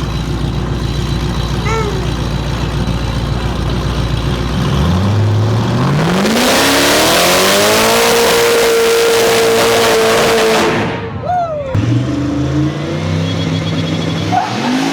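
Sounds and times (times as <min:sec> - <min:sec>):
car engine revving: 0:00.0 - 0:11.2, 0:11.8 - 0:14.9.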